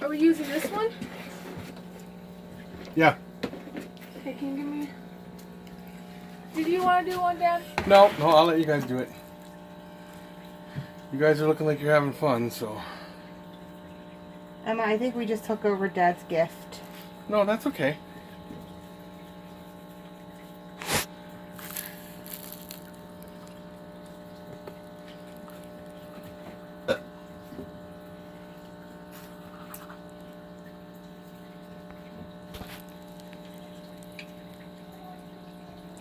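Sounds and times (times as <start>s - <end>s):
steady electrical hum: 0.0s - 36.0s.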